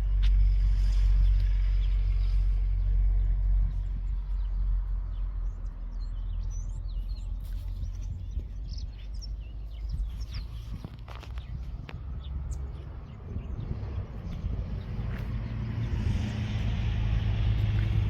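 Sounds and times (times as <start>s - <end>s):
steady low rumble: 0.0s - 18.0s
birds chirping: 0.1s - 18.0s.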